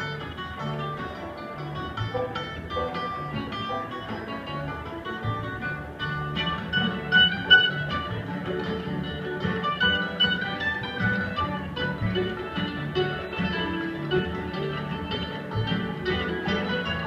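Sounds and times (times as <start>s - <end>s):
bluegrass band playing: 0.0s - 17.0s.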